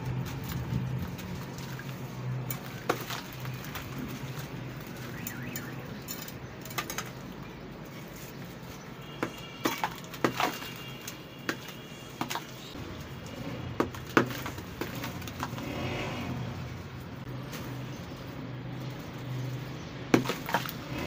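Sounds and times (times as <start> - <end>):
wet crumbling and sloshing water: 0.0 - 15.8, 17.0 - 21.0
soaked brick crunching: 0.0 - 21.0.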